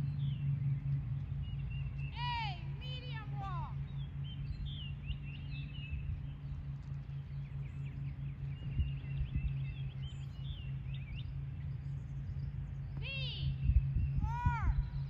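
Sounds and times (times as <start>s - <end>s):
low rumble: 0.0s - 15.0s
small birds chirping: 0.0s - 15.0s
steady low hum: 0.0s - 15.0s.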